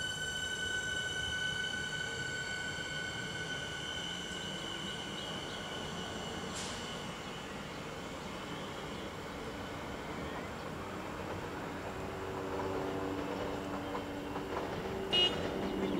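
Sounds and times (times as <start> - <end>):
electric train whine and rumble: 0.0 - 15.9.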